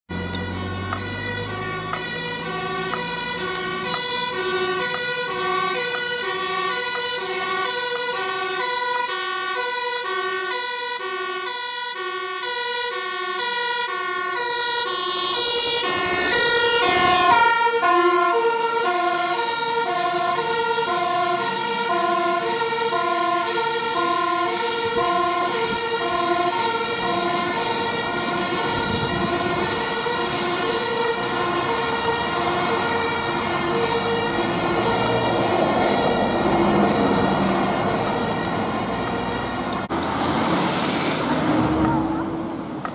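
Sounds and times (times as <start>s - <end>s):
fire engine two-tone siren: 0.0s - 42.9s.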